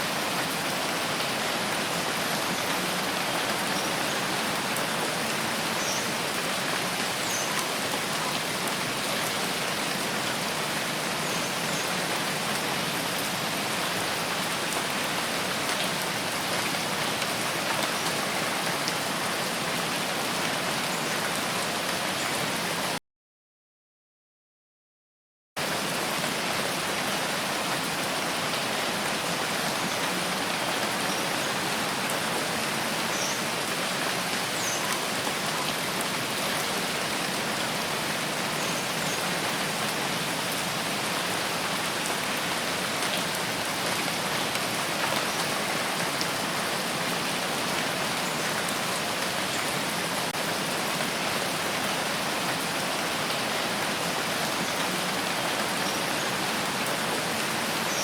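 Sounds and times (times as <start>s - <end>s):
steady rain falling: 0.0s - 23.0s, 25.6s - 58.0s.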